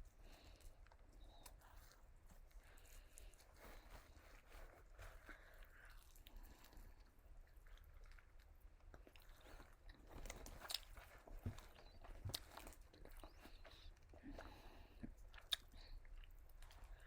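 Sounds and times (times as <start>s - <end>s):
chewing fried food: 0.0s - 17.0s.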